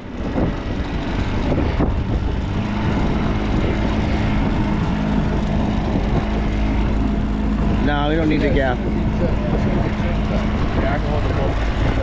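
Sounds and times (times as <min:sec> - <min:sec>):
boat engine running: 0:00.0 - 0:12.0
broad rushing noise: 0:00.0 - 0:12.0.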